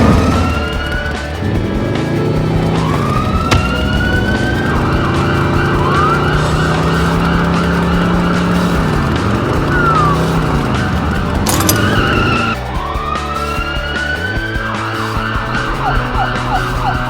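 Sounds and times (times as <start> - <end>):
police siren warbling: 0.0 - 1.1, 2.5 - 17.0
vehicle engine hum: 0.0 - 17.0.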